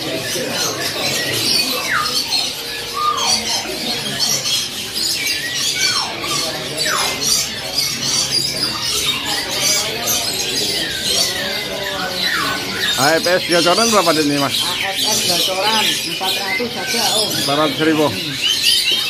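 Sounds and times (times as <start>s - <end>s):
songbirds chirping and calling: 0.0s - 19.0s.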